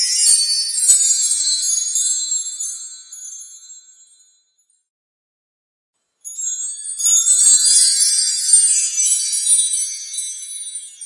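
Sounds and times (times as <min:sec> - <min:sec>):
small metal chimes tinkling: 0:00.0 - 0:04.9, 0:06.2 - 0:11.0.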